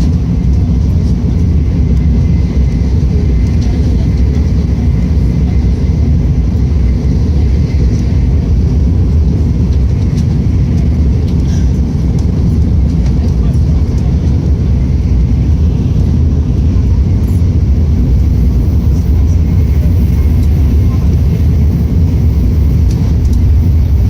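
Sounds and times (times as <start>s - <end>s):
train running noise in cabin: 0.0s - 24.0s.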